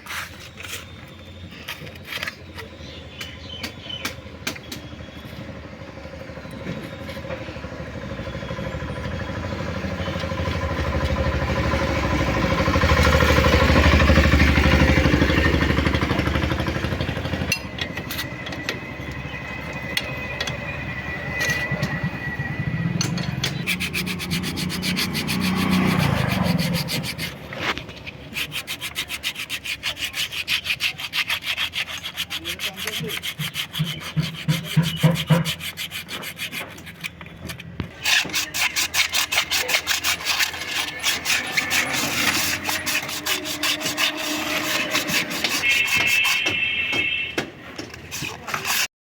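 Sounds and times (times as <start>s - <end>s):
scraping strokes on metal: 6.6s - 48.9s.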